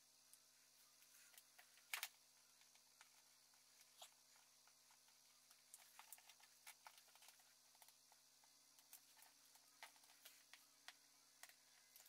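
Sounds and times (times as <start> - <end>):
small clicks of handling pads: 0.3 - 12.0.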